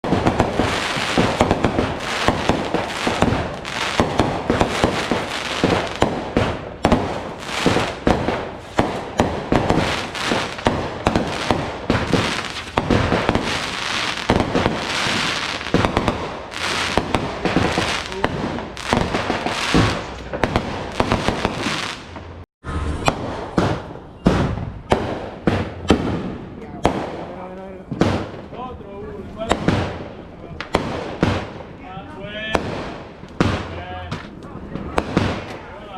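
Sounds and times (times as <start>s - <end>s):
fireworks bursting: 0.0s - 35.9s.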